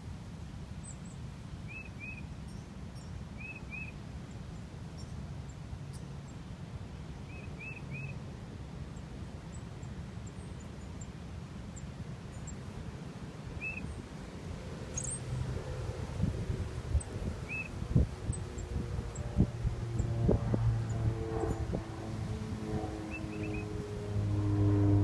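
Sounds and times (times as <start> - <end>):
songbirds chirping: 0.8 - 16.0, 16.7 - 23.9.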